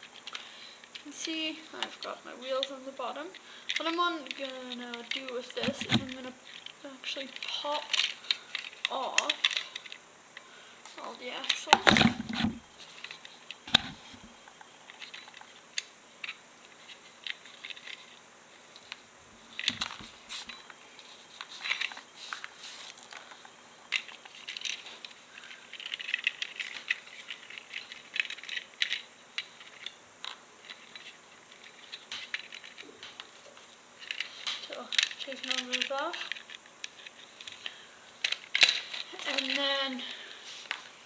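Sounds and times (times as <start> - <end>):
small plastic clicks and rattles: 0.1 - 10.0, 10.8 - 20.2, 21.4 - 40.9.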